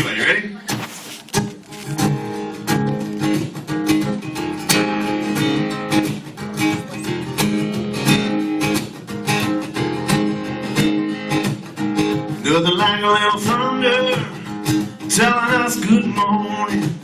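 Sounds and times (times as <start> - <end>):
acoustic guitar strumming chords: 0.5 - 17.0.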